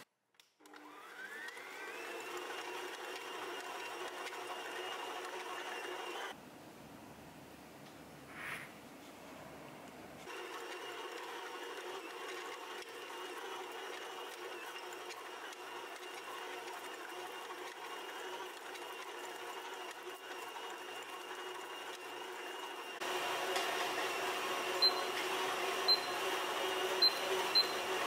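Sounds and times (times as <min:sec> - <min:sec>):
stand mixer motor humming: 0:00.7 - 0:06.4, 0:10.3 - 0:28.0.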